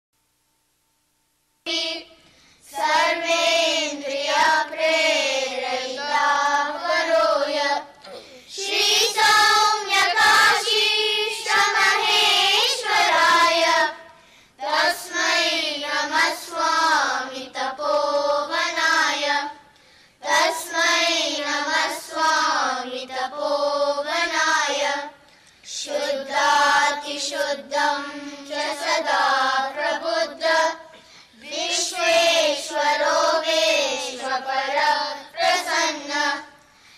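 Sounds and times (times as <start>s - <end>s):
children chanting in unison: 1.7s - 7.9s, 8.5s - 19.6s, 20.2s - 25.1s, 25.7s - 36.6s.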